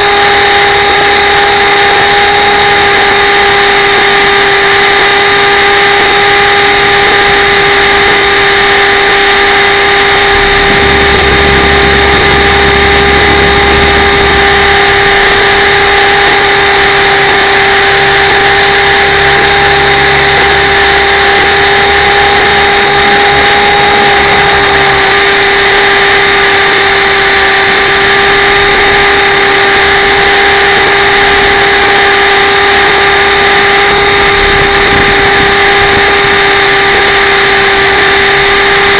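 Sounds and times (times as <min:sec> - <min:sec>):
rushing noise: 0:00.0 - 0:38.3
helicopter motor high-pitched whine: 0:00.0 - 0:38.9.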